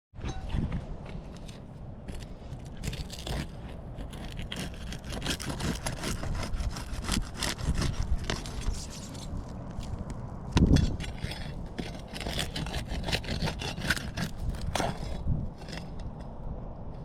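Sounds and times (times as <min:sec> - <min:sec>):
scraping and rubbing: 0:01.1 - 0:17.0.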